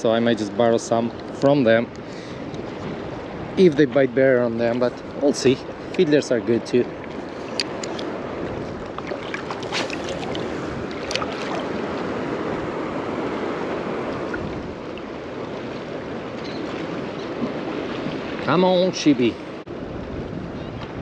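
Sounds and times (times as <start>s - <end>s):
small choppy waves: 0.0s - 21.0s
wind on open water: 0.0s - 21.0s.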